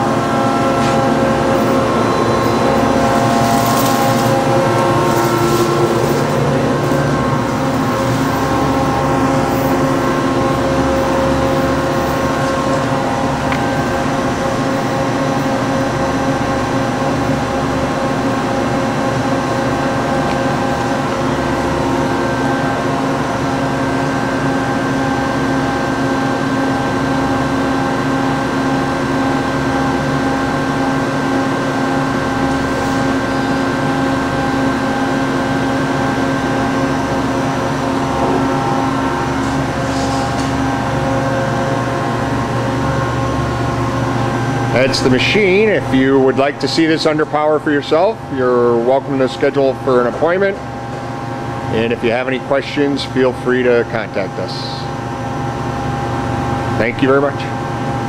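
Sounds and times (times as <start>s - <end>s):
machining center humming: 0.0s - 58.0s.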